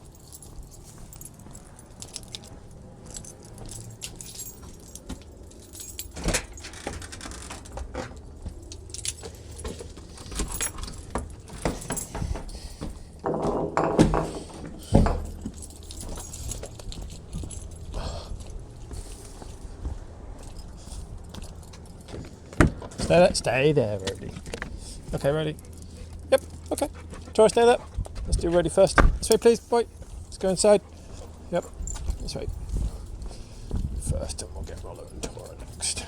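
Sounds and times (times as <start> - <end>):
keys jangling: 0.0 - 36.0.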